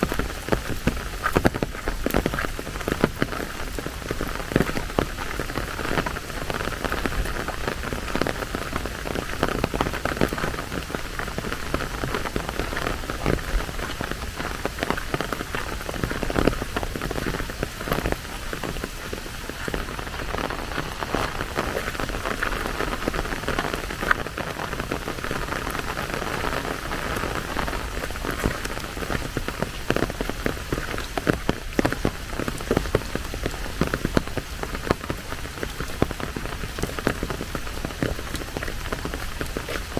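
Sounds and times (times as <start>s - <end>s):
raindrops ticking: 0.0s - 39.9s
steady rain falling: 0.0s - 39.9s.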